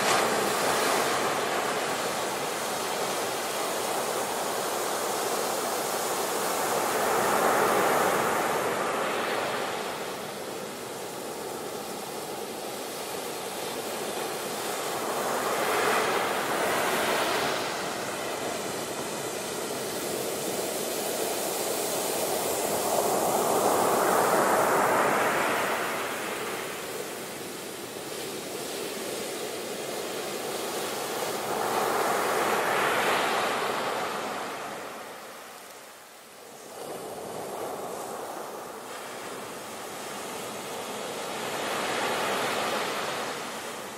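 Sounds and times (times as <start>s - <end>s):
ocean waves crashing: 0.0s - 43.9s.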